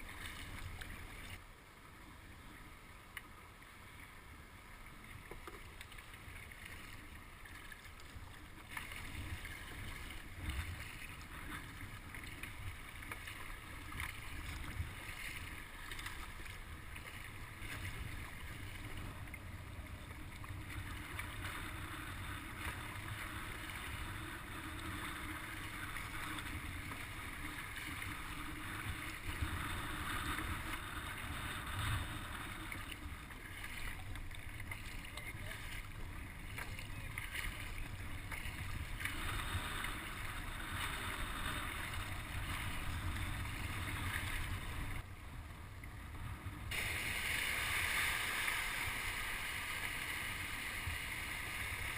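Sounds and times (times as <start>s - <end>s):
water splashing around kayak: 0.0s - 51.9s
wind rumbling on microphone: 8.1s - 51.9s.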